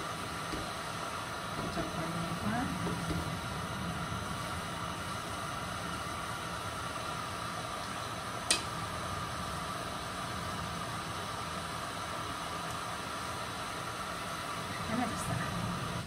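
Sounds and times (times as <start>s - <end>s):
water boiling in a pan: 0.0s - 16.0s.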